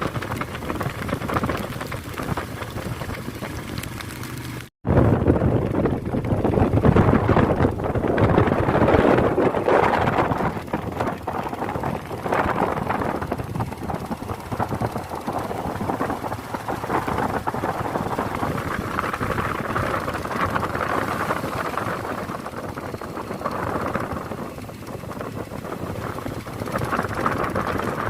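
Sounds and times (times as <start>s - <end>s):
vehicle engine and road noise: 0.0s - 28.0s
wind rushing over microphone: 0.0s - 28.0s.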